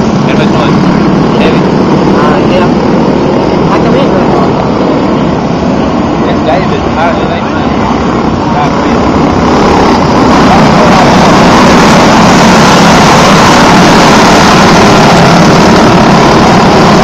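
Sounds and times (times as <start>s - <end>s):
racing kart engines: 0.0s - 17.0s.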